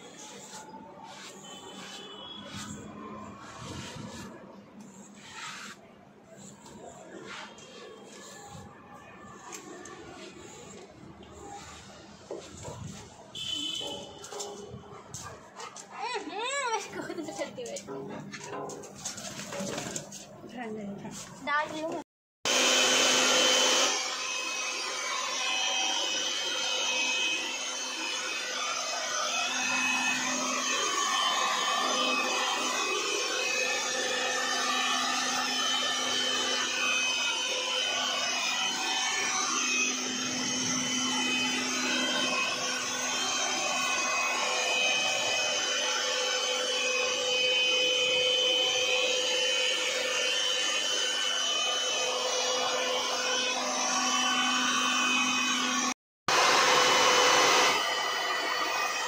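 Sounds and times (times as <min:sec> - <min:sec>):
electric air blower running: 0:00.0 - 0:15.4, 0:22.5 - 0:59.0.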